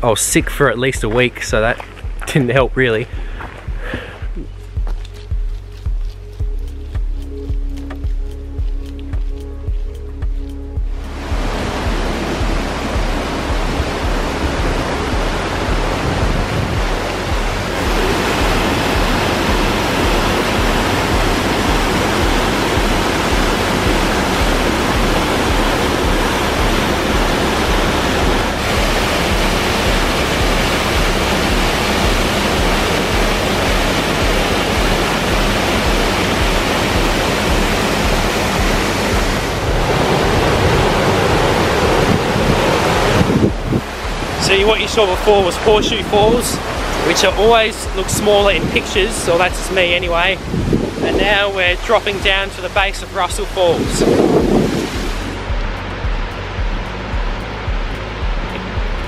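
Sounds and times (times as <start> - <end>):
waterfall rushing: 10.8 - 59.0.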